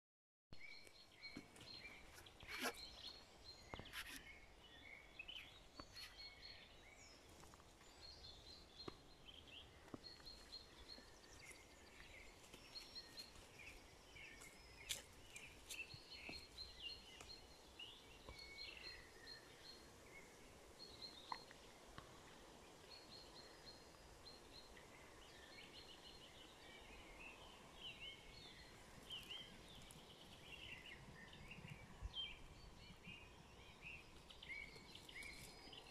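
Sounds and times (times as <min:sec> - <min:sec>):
birds chirping and twittering: 0:00.6 - 0:35.9.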